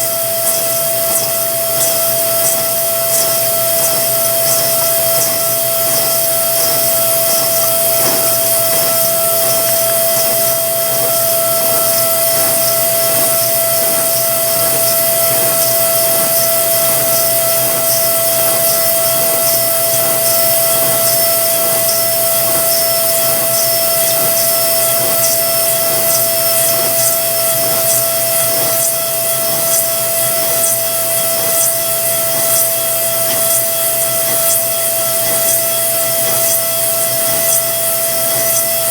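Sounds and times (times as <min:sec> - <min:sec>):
grinding hiss: 0:00.0 - 0:38.9
milling machine spindle whine: 0:00.0 - 0:38.9
rapid scraping ticks: 0:00.0 - 0:38.9.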